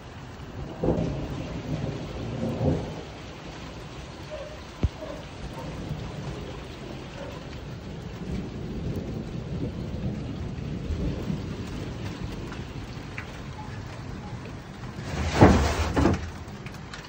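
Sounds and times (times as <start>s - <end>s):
low rumble of thunder: 0.0s - 17.0s
rain falling: 0.0s - 17.0s.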